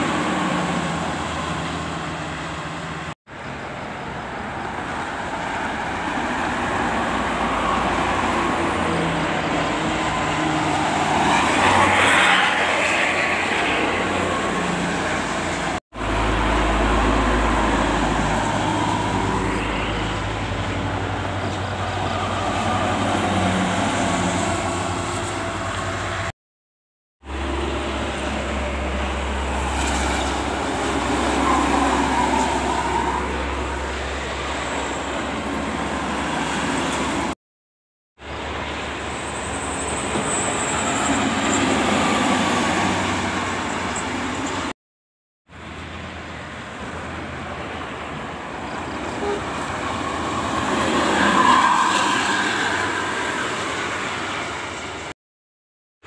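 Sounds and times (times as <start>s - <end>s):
buses passing on highway: 0.0s - 26.4s, 27.2s - 37.4s, 38.2s - 44.8s, 45.5s - 55.2s.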